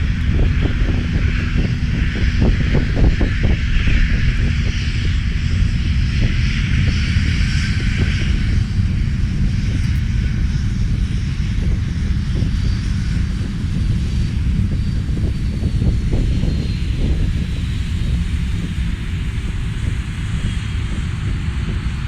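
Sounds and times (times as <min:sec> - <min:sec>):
high jet engine whine: 0:00.0 - 0:22.0
jet engines rumbling: 0:00.0 - 0:22.0.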